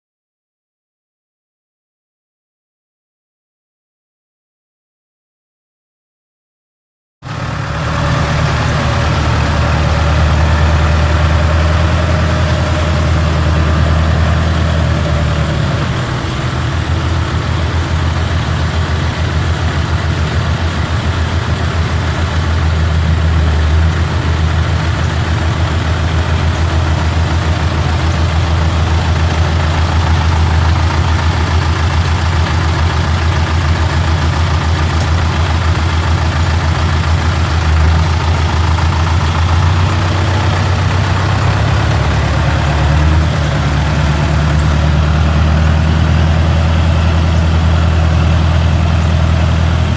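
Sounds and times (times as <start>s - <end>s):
tractor diesel engine idling: 7.2s - 49.9s.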